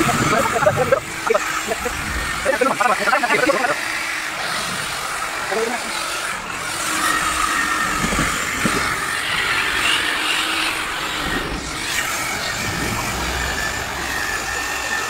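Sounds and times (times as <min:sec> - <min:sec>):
electric polisher whining: 0:00.0 - 0:15.0.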